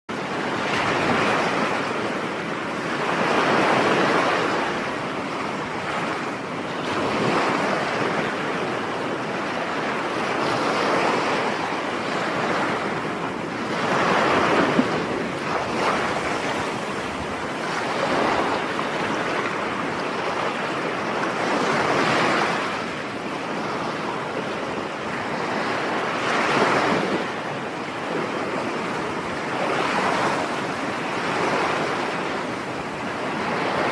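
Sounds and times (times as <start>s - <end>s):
sea waves washing ashore: 0.1s - 33.9s.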